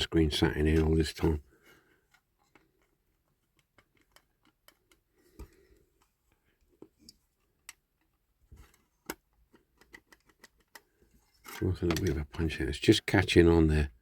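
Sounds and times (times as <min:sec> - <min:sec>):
light clicks and taps of small parts: 0:00.5 - 0:12.5.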